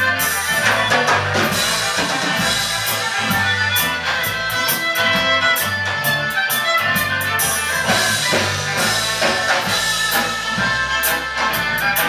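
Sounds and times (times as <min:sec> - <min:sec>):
drums with cymbal hits: 0:00.0 - 0:12.0
fiddle: 0:00.0 - 0:12.0
saxophone: 0:00.0 - 0:12.0.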